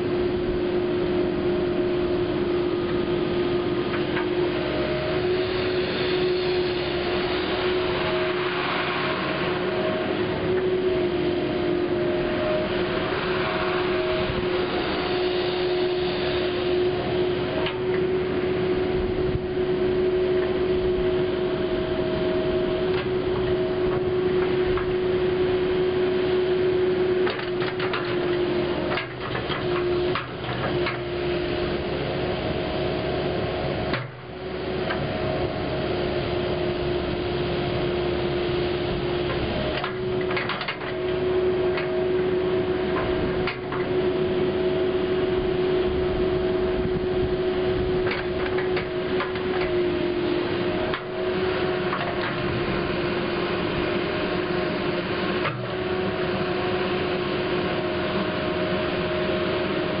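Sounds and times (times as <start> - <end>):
excavator engine and hydraulics humming: 0.0 - 60.0.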